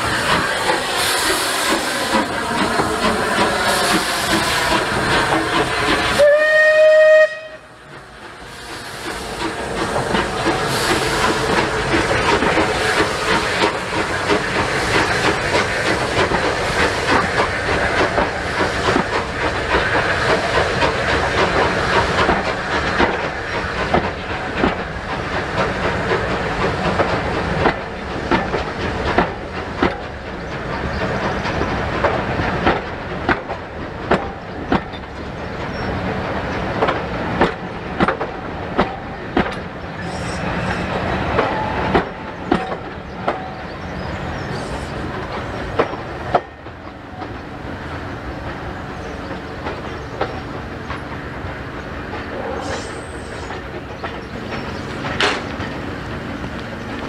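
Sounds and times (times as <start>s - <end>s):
train rumble: 0.0s - 57.0s
train wheels clicking over rail joints: 0.0s - 57.0s.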